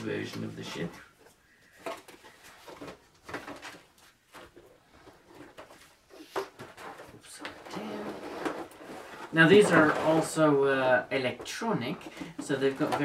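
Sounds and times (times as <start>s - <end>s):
cardboard packaging rustling: 1.7s - 13.0s.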